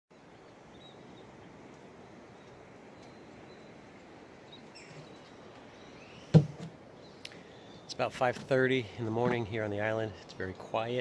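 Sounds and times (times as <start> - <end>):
faint outdoor hiss: 0.1 - 11.0.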